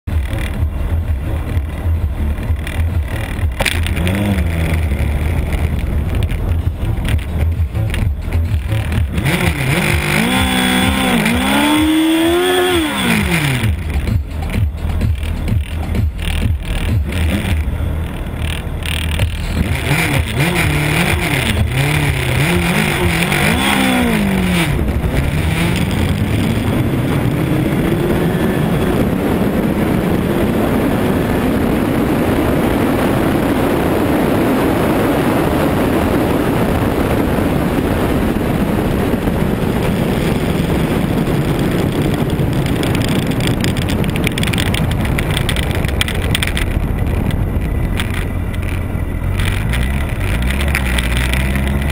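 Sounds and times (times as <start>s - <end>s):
motorcycle engine at full throttle: 0.0s - 51.9s
wind rush on microphone: 0.0s - 51.9s.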